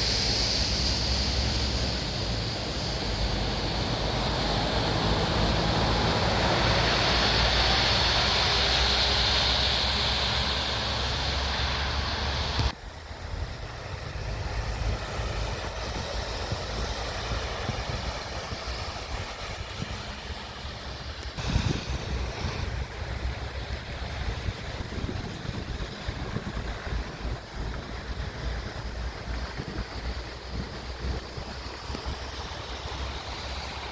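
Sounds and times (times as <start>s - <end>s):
truck road noise rumble: 0.0s - 33.9s
wind buffeting microphone: 0.0s - 33.9s.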